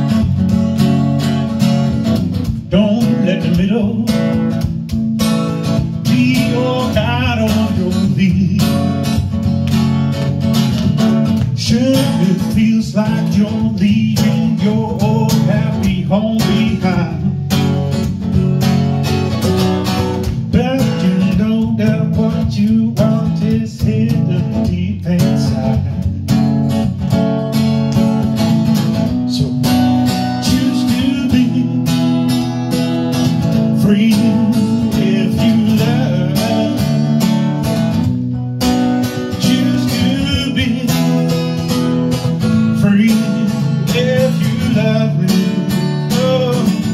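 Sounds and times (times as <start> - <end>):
acoustic guitar strumming: 0.0 - 46.9.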